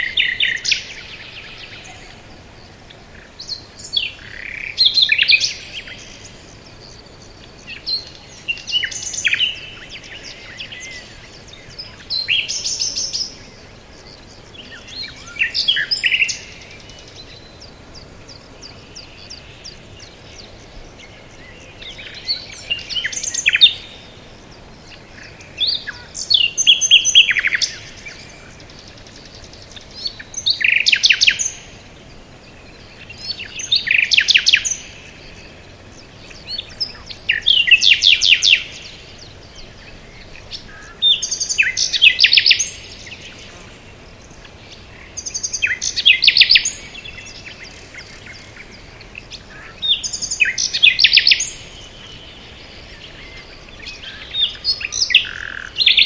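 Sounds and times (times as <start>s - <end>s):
faint background hiss: 0.0s - 56.0s
songbird singing trills: 0.0s - 56.0s.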